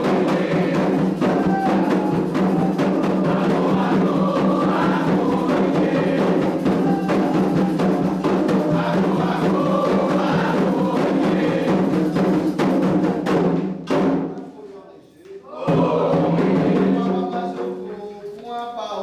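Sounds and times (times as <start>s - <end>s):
group chanting: 0.0s - 13.4s, 15.4s - 17.8s
hand drums beating: 0.0s - 14.4s, 15.7s - 18.0s.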